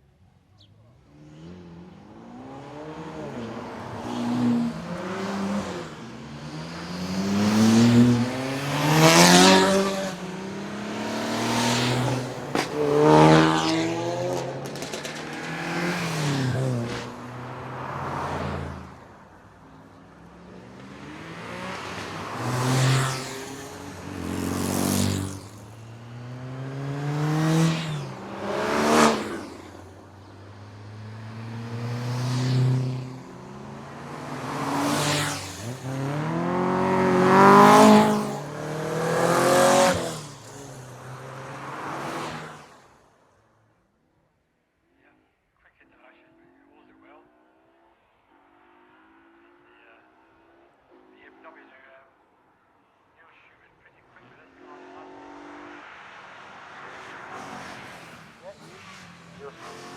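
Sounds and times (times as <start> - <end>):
car engines revving past: 0.6 - 43.1, 54.2 - 59.9.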